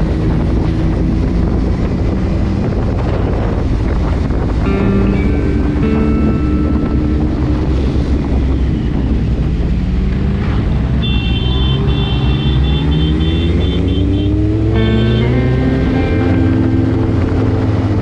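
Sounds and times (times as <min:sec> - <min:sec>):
motorcycle engine accelerating: 0:00.0 - 0:18.0
wind noise on microphone: 0:00.0 - 0:18.0.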